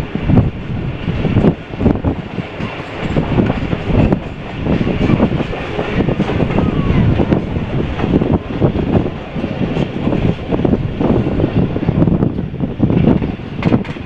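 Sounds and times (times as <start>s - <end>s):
train rumbling on track: 0.0s - 14.0s
wheels clattering over rails: 0.0s - 14.0s.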